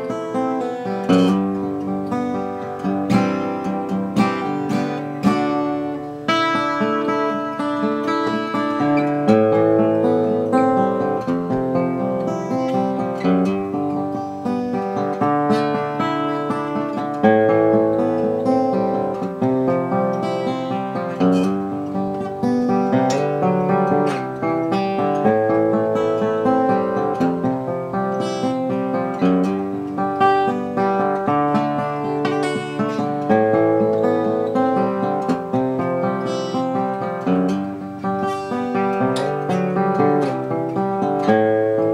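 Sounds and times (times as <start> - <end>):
acoustic guitar played solo: 0.0 - 41.9.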